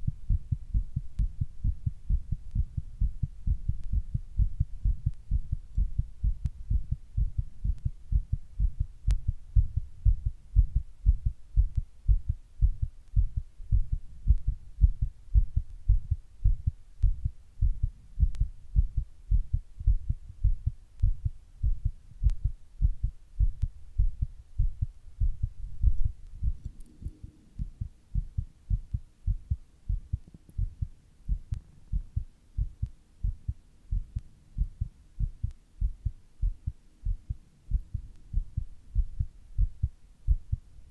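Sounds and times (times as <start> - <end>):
fast heartbeat thuds: 0.0 - 26.7, 27.6 - 40.6.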